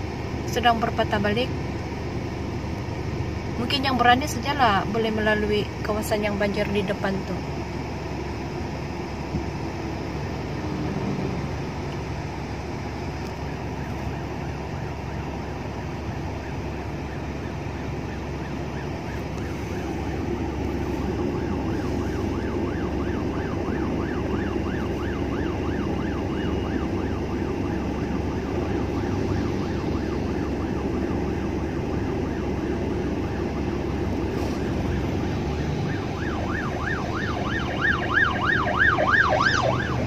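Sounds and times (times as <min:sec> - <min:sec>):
car engine hum: 0:00.0 - 0:40.0
ambulance siren yelp: 0:03.7 - 0:40.0.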